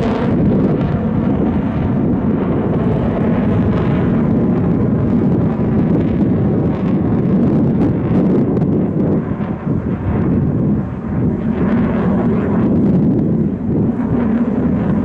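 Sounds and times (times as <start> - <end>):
jet aircraft flying over: 0.0 - 15.0.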